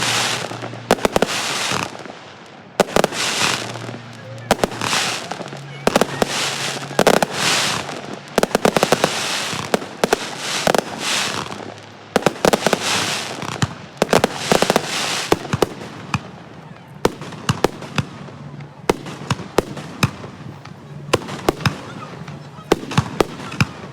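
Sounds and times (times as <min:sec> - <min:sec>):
fireworks cracks and bangs: 0:00.0 - 0:23.9
fireworks hissing crackle: 0:00.0 - 0:23.9.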